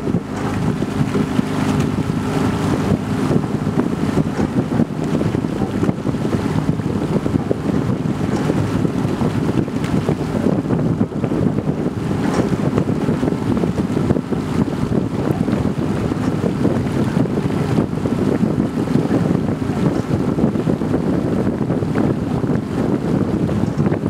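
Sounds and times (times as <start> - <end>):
motor boat engine rumble: 0.0 - 24.0
wind buffeting microphone: 0.0 - 24.0.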